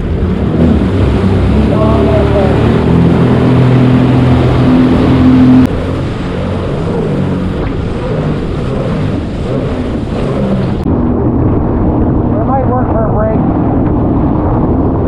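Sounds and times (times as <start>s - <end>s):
water spray and wind rushing: 0.0s - 15.0s
watercraft engine running: 0.0s - 15.0s.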